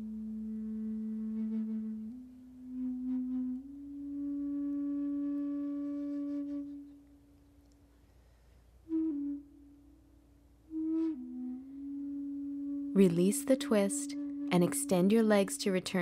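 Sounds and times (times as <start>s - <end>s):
slow flute-like melody: 0.0s - 7.9s, 8.8s - 15.2s.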